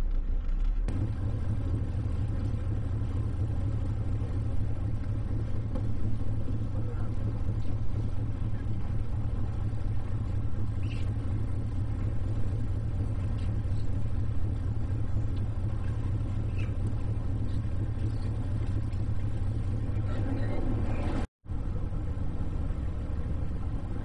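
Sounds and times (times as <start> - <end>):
boat engines rumbling: 0.4 - 24.0.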